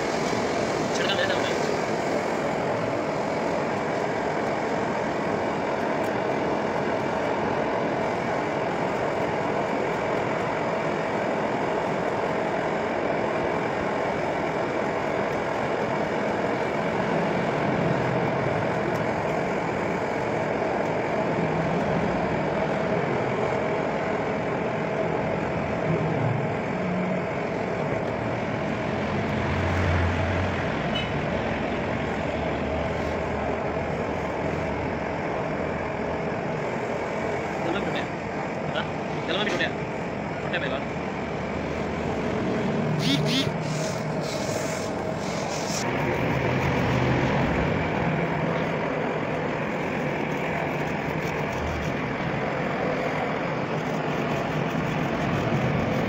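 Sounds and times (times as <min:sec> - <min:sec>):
blowtorch flame roaring: 0:00.0 - 0:56.0.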